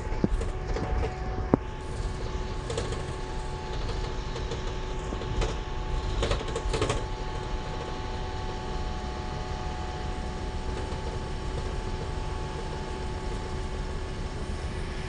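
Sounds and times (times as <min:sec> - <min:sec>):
engine and road rumble: 0:00.0 - 0:15.0
faint steady whine: 0:00.0 - 0:15.0.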